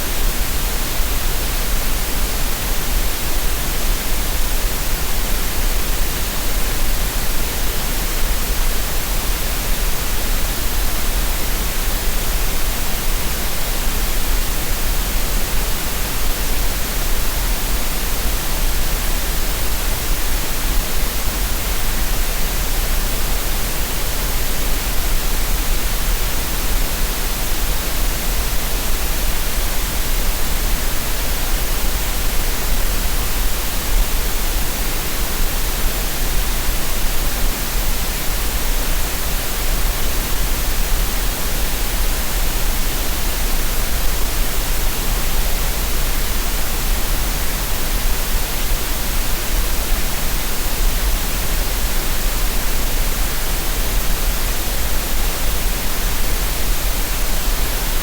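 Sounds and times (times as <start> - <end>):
steady green noise hiss: 0.0 - 58.0.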